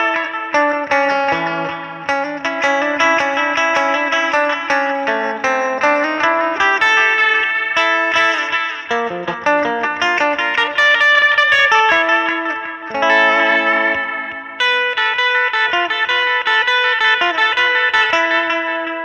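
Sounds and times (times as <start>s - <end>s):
electric guitar plucked notes: 0.0s - 19.0s.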